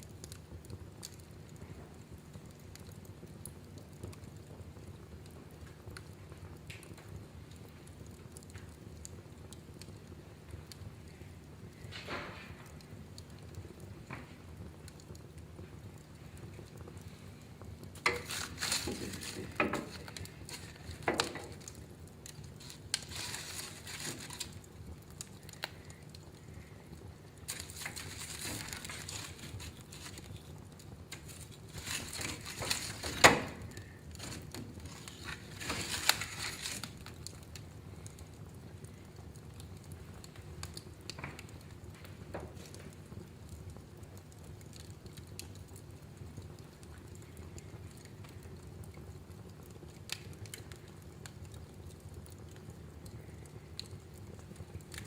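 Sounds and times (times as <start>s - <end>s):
fire crackling in a fireplace: 0.0s - 55.0s.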